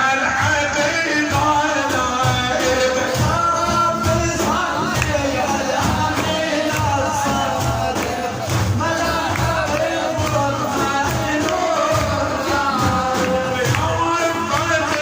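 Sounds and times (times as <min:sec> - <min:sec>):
man singing: 0:00.0 - 0:15.0
steady drum beat: 0:00.0 - 0:15.0.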